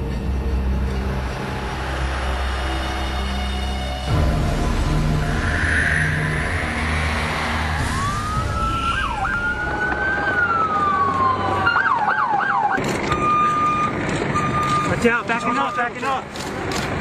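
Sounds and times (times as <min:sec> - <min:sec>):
emergency vehicle siren: 0:01.6 - 0:16.2.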